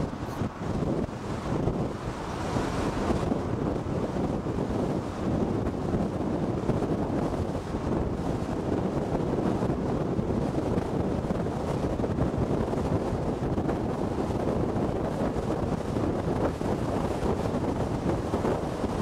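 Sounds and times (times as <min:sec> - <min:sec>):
car road and tyre noise: 0:00.0 - 0:19.0
wind buffeting the microphone: 0:00.0 - 0:19.0.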